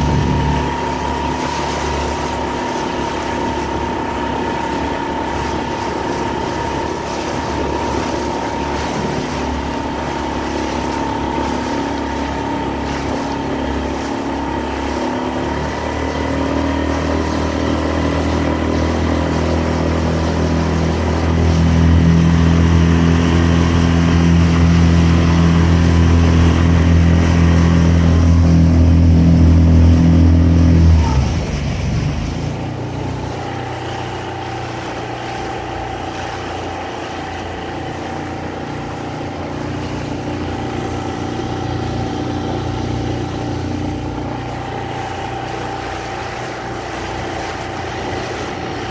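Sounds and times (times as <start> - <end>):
outboard motor droning: 0.0 - 48.9.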